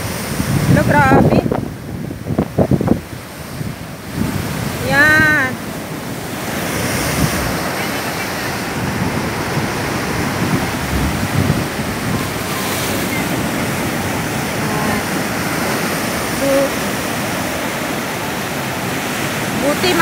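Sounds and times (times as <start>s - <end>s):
surf breaking on rocky shore: 0.0s - 20.0s.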